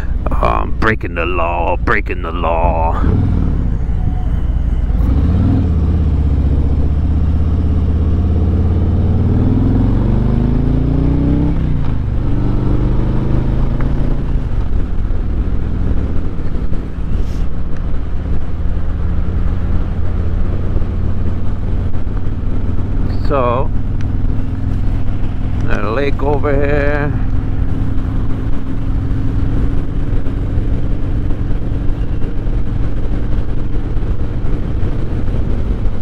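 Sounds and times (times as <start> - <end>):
motorcycle engine accelerating: 2.6 - 17.1, 18.0 - 36.0.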